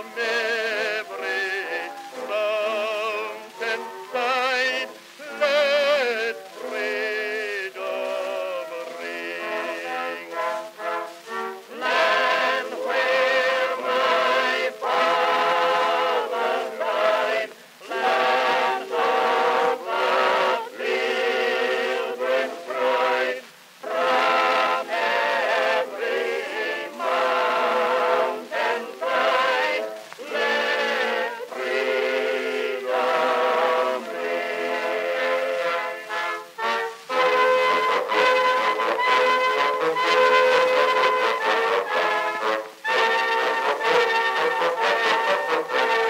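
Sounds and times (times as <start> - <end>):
choral singing: 0.0 - 46.0.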